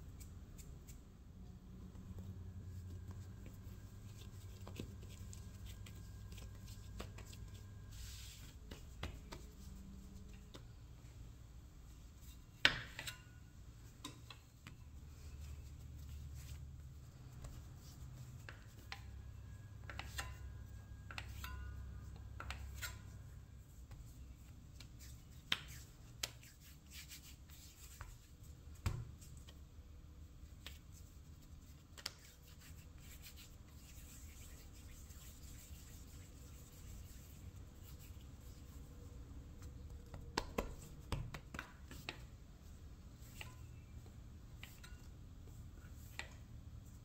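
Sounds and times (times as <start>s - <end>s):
hands rubbing dough: 0.0s - 1.2s, 1.8s - 10.8s, 14.4s - 29.6s, 30.4s - 47.0s.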